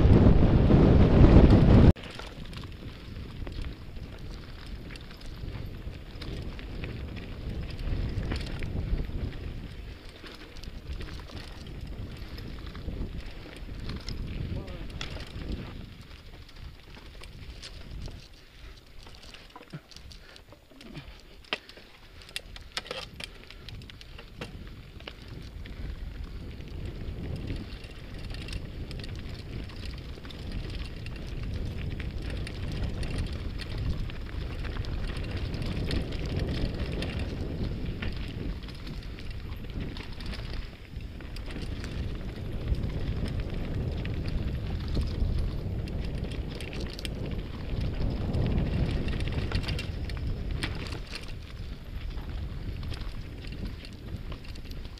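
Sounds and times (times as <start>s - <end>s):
bike rattling: 0.0s - 54.9s
bike tyres crunching over gravel: 0.0s - 54.9s
wind rumble on microphone: 0.0s - 54.9s.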